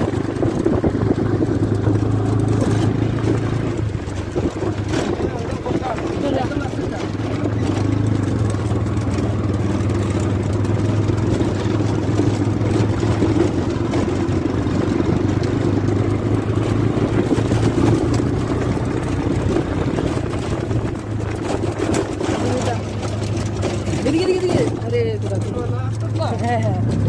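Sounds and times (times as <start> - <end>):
auto-rickshaw engine humming: 0.0 - 27.0.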